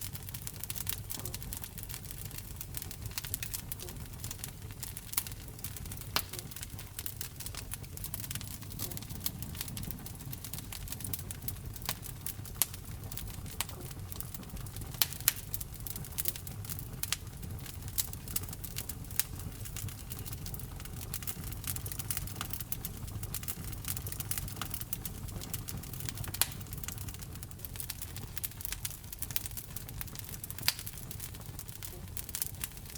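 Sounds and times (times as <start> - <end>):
fire crackles and pops: 0.0 - 32.9
low rumble of flames: 0.0 - 32.9.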